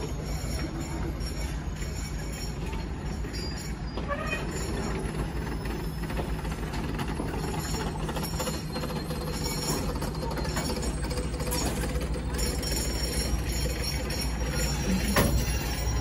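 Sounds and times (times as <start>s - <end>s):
diesel locomotive drone: 0.0s - 16.0s
train coaches rumbling on rails: 0.0s - 16.0s.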